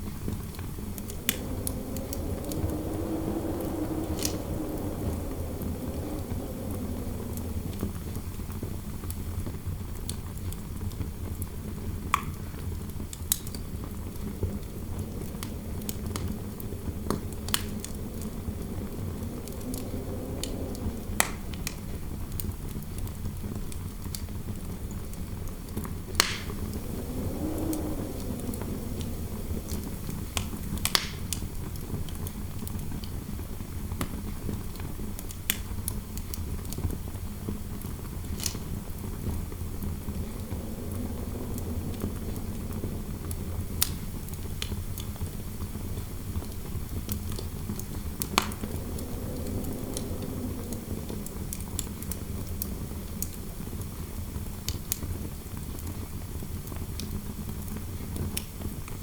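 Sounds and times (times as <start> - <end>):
wind howling: 0.0 - 10.3, 11.6 - 54.4
wood fire crackling: 0.0 - 10.9, 12.1 - 33.1, 34.2 - 59.0.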